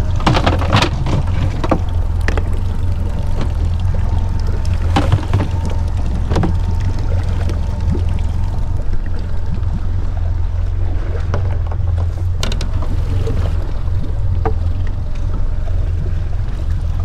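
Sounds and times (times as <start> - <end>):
outboard motor running: 0.0 - 17.0
water rushing along hull: 0.0 - 17.0.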